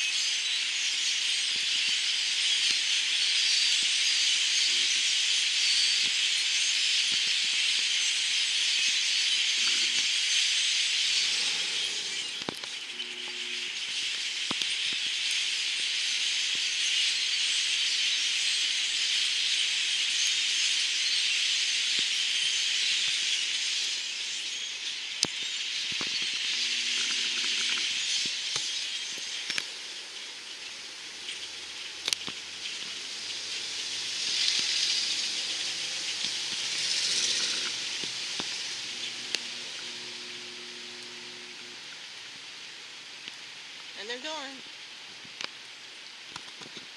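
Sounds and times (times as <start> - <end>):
flock of birds chattering: 0.0 - 44.6.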